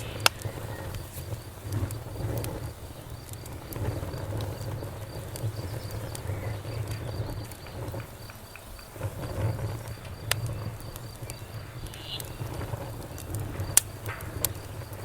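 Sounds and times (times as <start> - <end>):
burning wood crackling and popping: 0.0 - 15.0
campfire flames rumbling: 0.0 - 15.0
insect chirping: 0.0 - 15.0.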